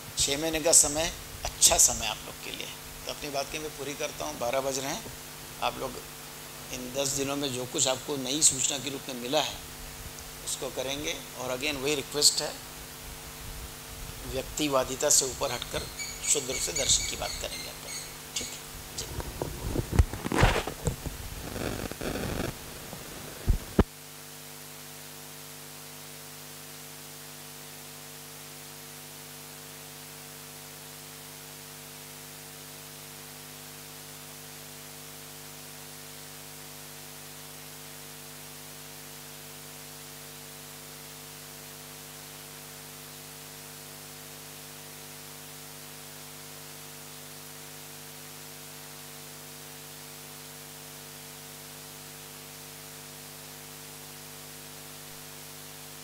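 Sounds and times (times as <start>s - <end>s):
electrical hum and hiss: 0.0s - 56.0s.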